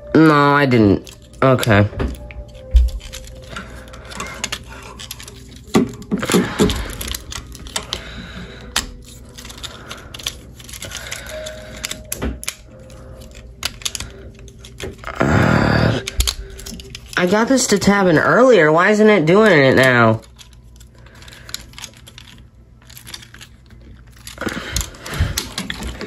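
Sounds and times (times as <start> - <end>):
plastic toy parts clicking: 1.0 - 18.2, 19.4 - 26.0.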